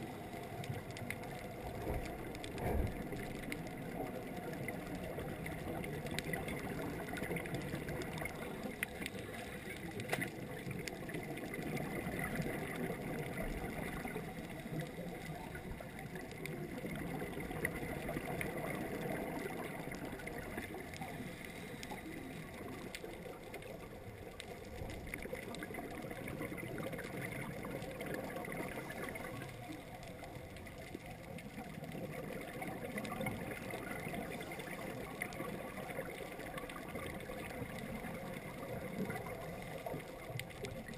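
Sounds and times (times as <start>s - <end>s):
faint clicks: 0.0s - 40.9s
muffled underwater rushing: 0.0s - 40.9s.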